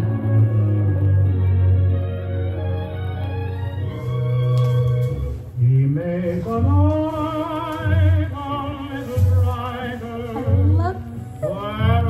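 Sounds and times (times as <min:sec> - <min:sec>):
low bass notes: 0:00.0 - 0:12.0
old record playing on turntable: 0:00.0 - 0:12.0.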